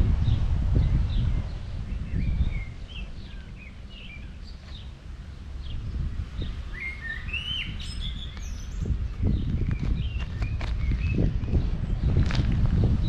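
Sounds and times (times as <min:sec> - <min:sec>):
wind rumble on microphone: 0:00.0 - 0:13.0
small birds chirping: 0:00.2 - 0:13.0.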